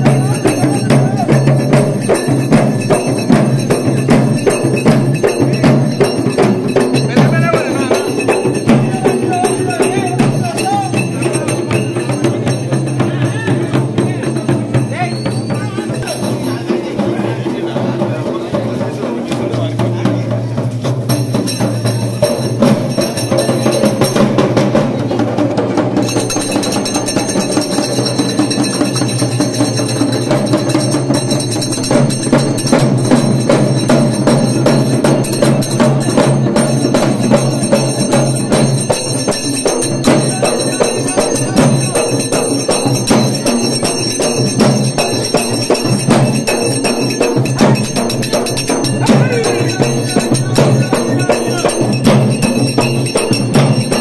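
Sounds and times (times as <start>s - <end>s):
fast drumming by drum band: 0.0s - 54.0s.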